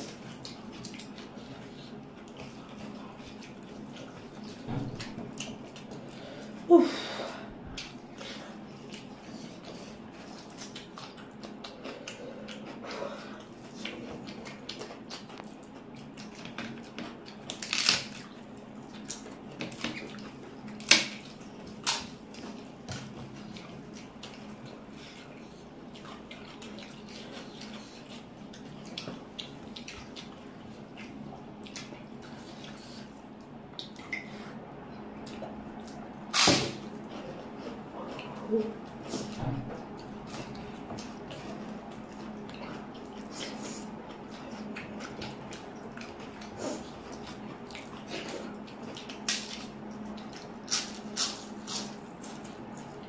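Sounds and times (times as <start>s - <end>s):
wet chewing and smacking: 0.0s - 6.7s, 7.7s - 53.0s
faint steady hum: 0.0s - 53.0s.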